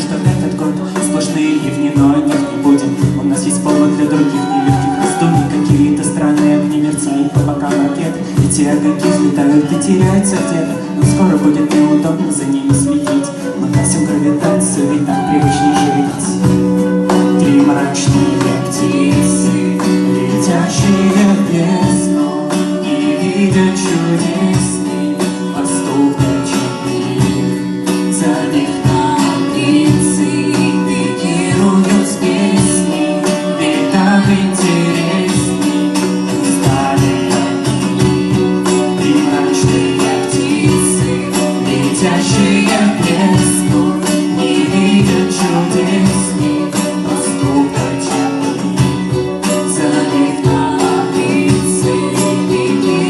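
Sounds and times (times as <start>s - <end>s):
drum beat: 0.0s - 53.0s
guitar chords: 0.0s - 53.0s.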